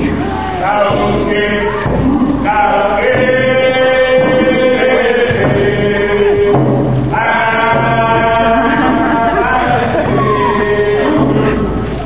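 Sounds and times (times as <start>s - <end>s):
group singing a chant: 0.0s - 12.0s.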